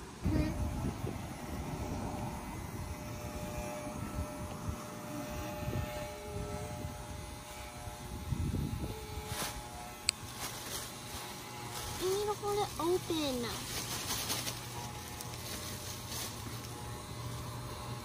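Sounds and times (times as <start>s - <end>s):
electric clippers buzzing: 0.0s - 18.0s.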